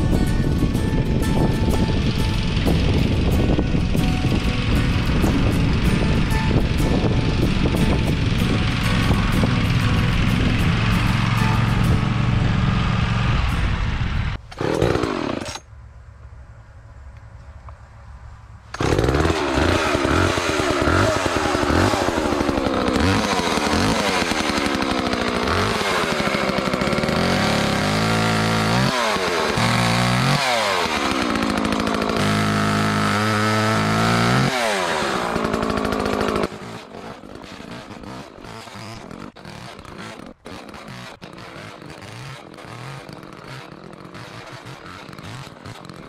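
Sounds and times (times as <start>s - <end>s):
chainsaw cutting branches: 0.0s - 15.7s, 18.7s - 46.0s.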